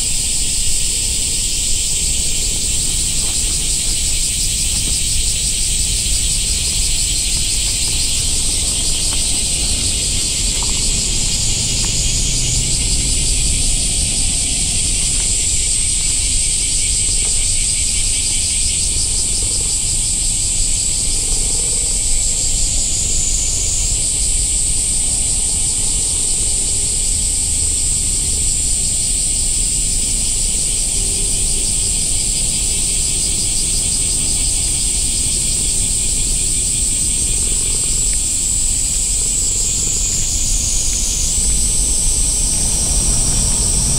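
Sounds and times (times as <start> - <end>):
insects buzzing chorus: 0.0 - 43.9.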